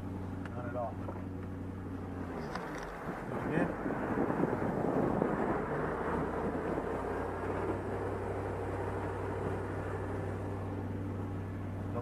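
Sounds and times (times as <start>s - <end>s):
engine revving then idling: 1.7s - 12.0s.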